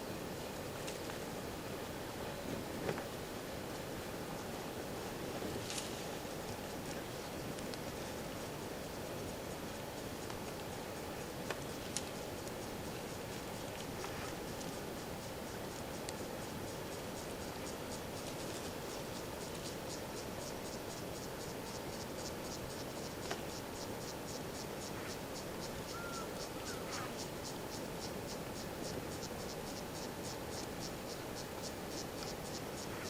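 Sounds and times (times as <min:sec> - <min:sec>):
insect chirping: 0:00.0 - 0:33.0
low background hiss: 0:00.0 - 0:33.0.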